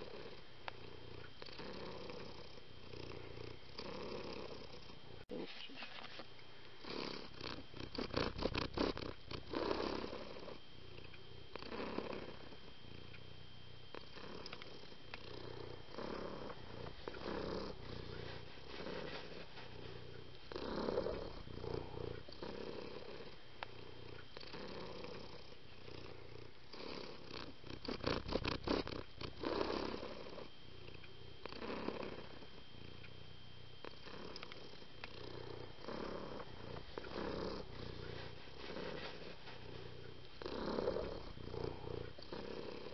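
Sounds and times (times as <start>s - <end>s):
cat purring: 0.0s - 6.1s, 6.8s - 42.9s.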